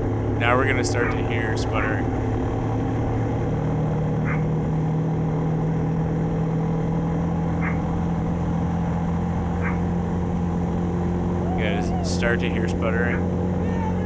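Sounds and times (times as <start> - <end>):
atv engine sputtering: 0.0 - 14.0.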